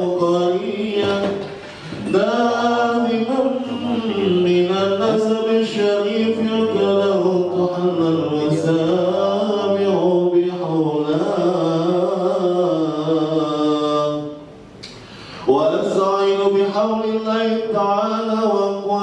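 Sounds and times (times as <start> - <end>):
man chanting into a microphone: 0.0 - 14.4, 15.4 - 19.0.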